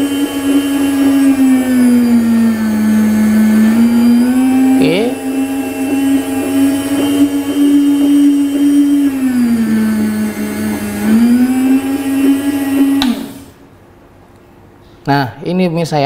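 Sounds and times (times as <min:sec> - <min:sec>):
meat slicer humming: 0:00.0 - 0:13.6.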